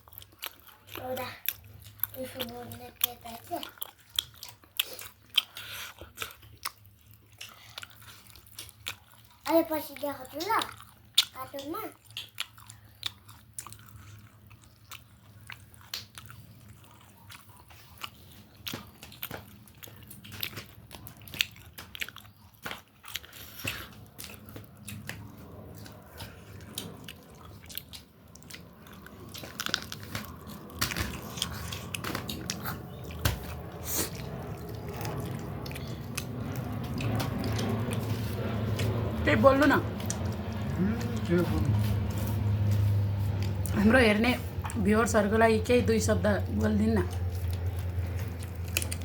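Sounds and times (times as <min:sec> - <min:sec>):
person chewing crunchy food: 0:00.0 - 0:39.2, 0:39.8 - 0:43.8, 0:46.4 - 0:49.0.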